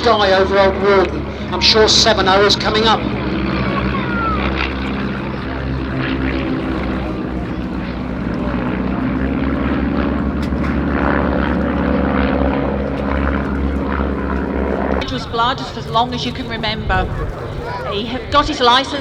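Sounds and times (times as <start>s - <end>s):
propeller planes droning overhead: 0.0s - 19.0s.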